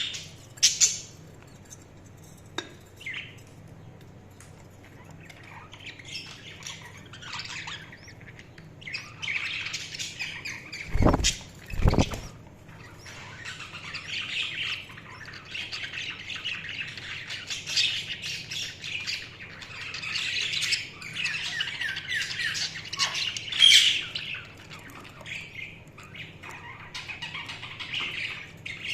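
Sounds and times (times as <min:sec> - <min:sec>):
budgies chattering and warbling: 0:00.0 - 0:02.1, 0:03.0 - 0:28.9.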